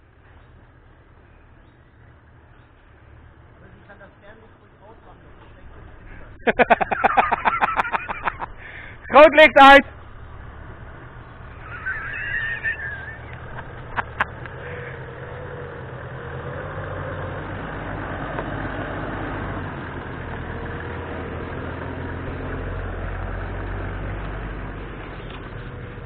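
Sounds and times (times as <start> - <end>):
vehicle engine low hum: 0.0 - 26.0.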